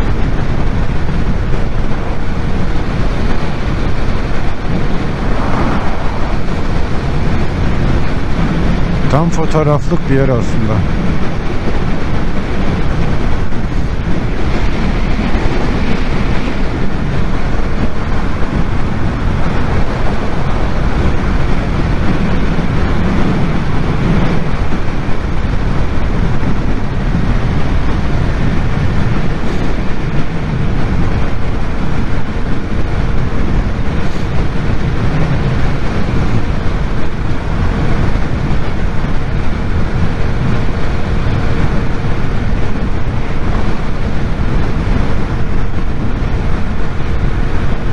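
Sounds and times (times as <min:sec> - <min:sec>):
motorcycle engine drone: 0:00.0 - 0:47.9
wind rushing on microphone: 0:00.0 - 0:47.9.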